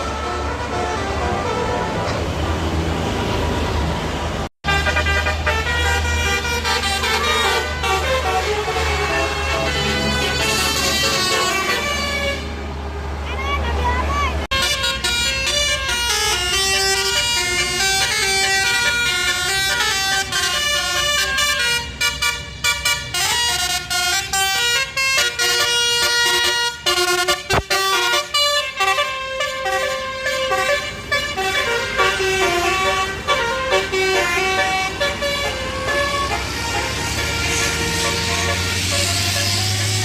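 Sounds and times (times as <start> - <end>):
musical bus air horn tune: 0.0 - 2.4, 4.6 - 12.8, 14.5 - 40.0
bus rumble: 0.0 - 40.0
road traffic: 0.0 - 40.0.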